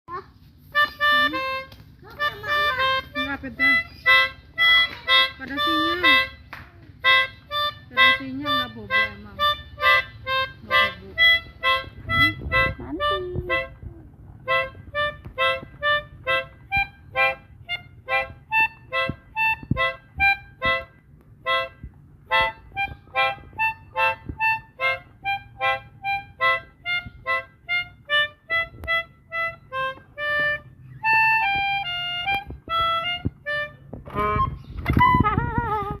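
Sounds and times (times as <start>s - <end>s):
melodica playing a quick tune: 0.5s - 36.0s.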